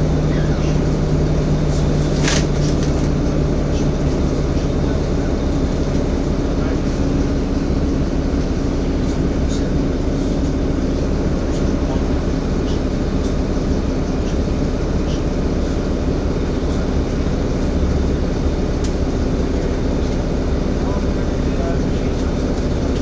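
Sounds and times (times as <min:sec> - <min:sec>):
bus engine drone: 0:00.0 - 0:23.0
constant hum: 0:00.0 - 0:23.0.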